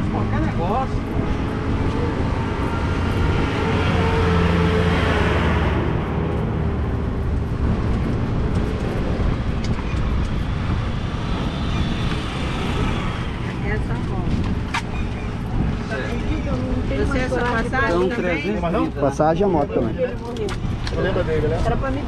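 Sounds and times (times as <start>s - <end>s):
low engine hum: 0.0s - 19.0s
outdoor traffic noise: 0.0s - 22.0s.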